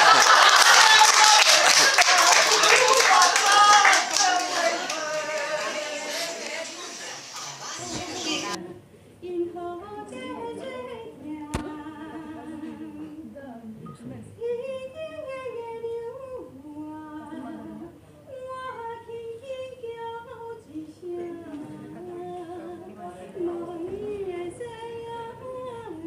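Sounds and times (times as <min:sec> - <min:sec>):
woman singing unaccompanied: 0:02.2 - 0:07.0, 0:07.8 - 0:26.0.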